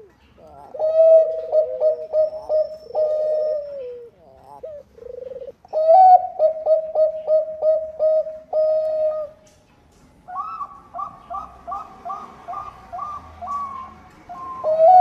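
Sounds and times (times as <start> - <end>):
dove cooing: 0.0 - 9.5, 10.3 - 15.0.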